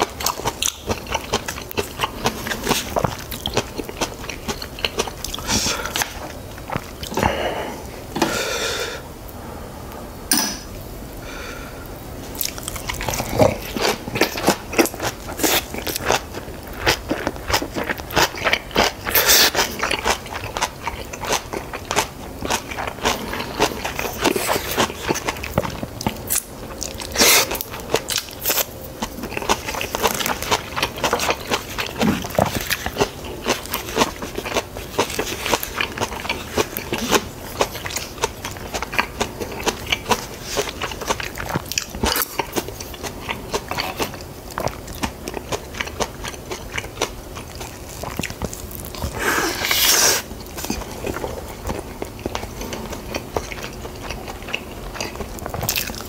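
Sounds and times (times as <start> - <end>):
person chewing crunchy food: 0.0 - 8.5, 11.7 - 56.0.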